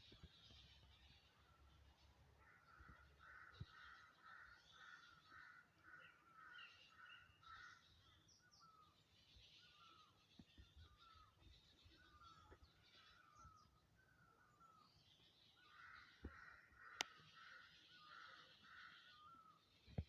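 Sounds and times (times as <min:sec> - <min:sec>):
harsh bird calls: 0:00.1 - 0:20.0.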